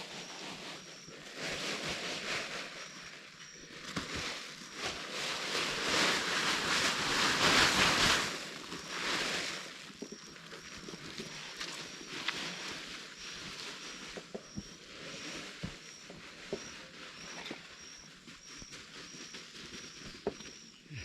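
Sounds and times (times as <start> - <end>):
rustling and scraping soil: 0.0 - 21.0.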